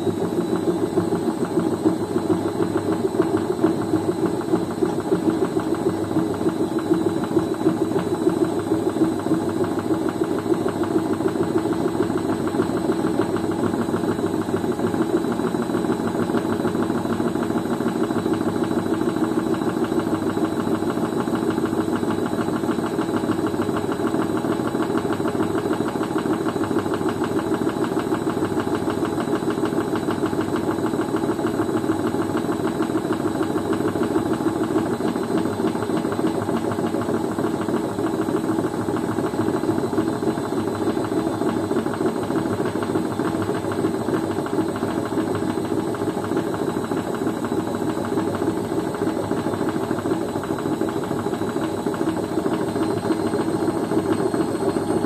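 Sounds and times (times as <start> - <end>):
washing machine drum spinning: 0.0 - 55.0.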